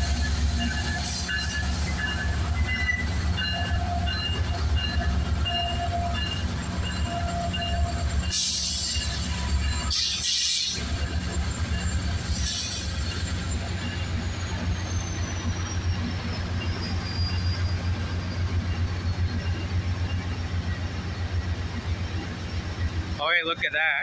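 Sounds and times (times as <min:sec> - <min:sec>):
diesel locomotive throbbing: 0:00.0 - 0:24.0
faint high squeal: 0:00.2 - 0:20.6.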